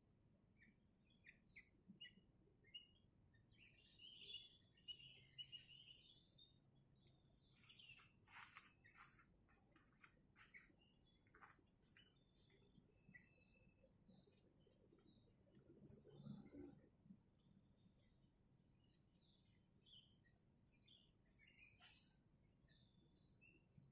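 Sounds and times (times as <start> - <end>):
bird chirping: 0.4 - 23.9.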